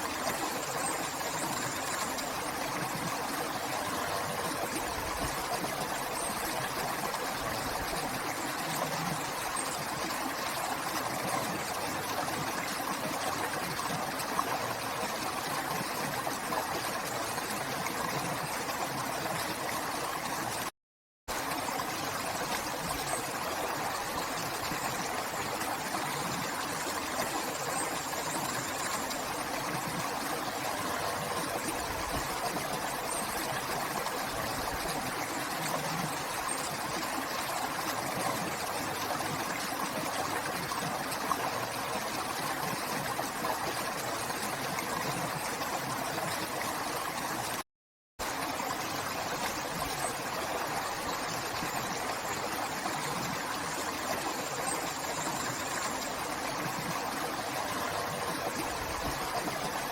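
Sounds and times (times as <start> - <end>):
river water rushing and trickling: 0.0 - 20.7, 21.3 - 47.6, 48.2 - 59.9.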